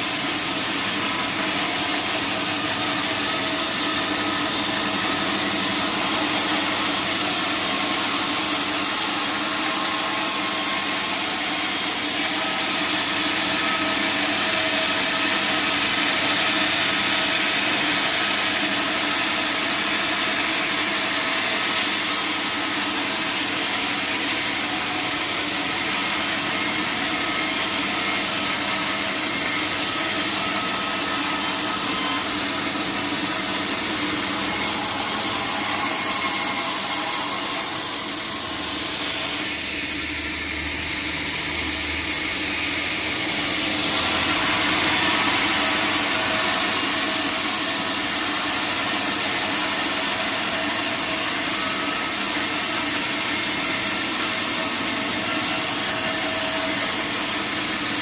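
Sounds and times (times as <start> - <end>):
saw blade cutting wood: 0.0 - 58.0
saw machinery hum: 0.0 - 58.0.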